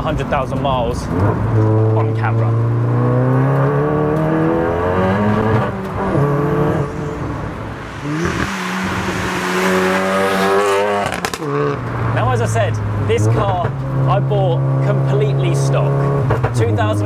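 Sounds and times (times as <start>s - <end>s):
car engine accelerating hard: 0.9s - 17.0s.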